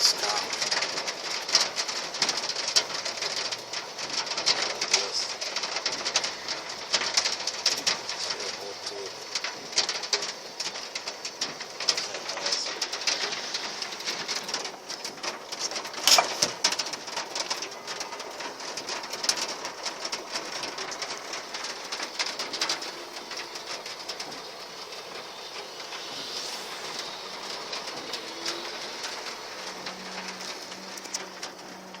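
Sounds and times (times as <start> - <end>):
hail falling: 0.0 - 32.0.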